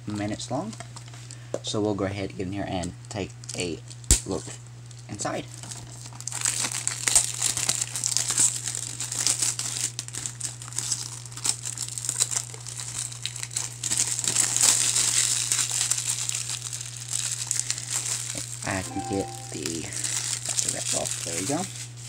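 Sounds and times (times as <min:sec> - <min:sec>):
shrink wrap crinkling and tearing: 0:03.4 - 0:22.0.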